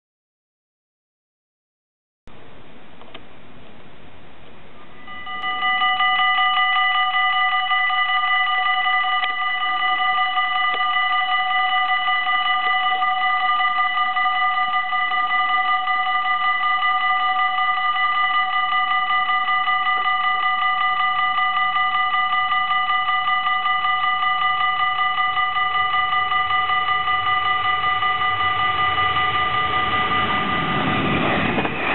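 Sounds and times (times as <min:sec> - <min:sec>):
level crossing warning bells ringing: 0:04.9 - 0:31.9.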